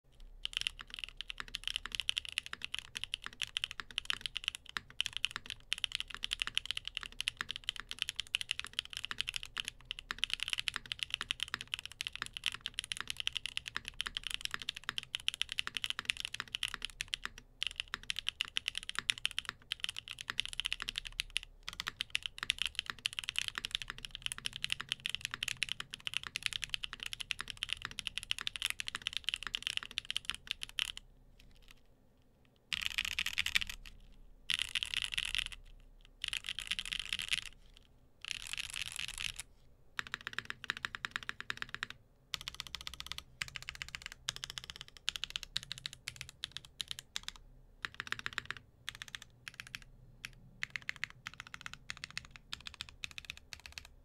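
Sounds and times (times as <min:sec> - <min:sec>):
mechanical keyboard typing: 0:00.1 - 0:31.8, 0:32.7 - 0:54.0.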